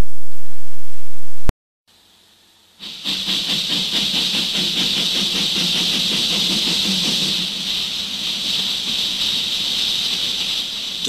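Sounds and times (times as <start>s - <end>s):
steam locomotive hissing steam: 1.9s - 11.0s.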